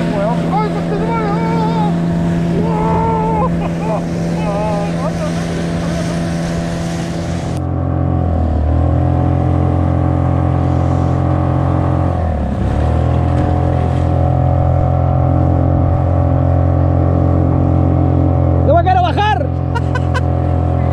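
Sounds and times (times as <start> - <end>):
outboard motor running: 0.0 - 20.9.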